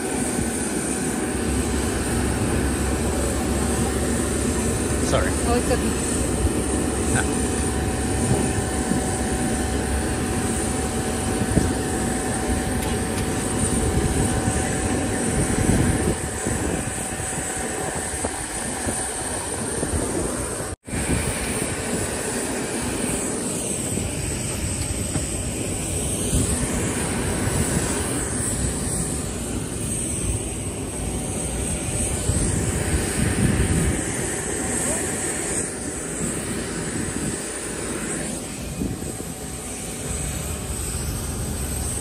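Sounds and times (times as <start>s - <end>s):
jet airliner steady rush: 0.0s - 42.0s.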